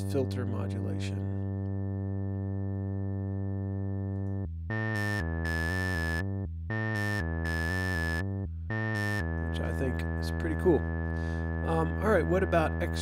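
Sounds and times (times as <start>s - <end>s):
buzzy synthesizer note: 0.0s - 13.0s
synthesizer sequence of stepping notes: 1.2s - 13.0s.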